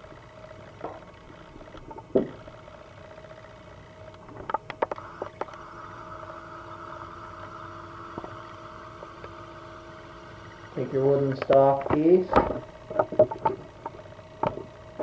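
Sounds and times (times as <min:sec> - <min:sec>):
camera noise whine: 0:00.0 - 0:15.0.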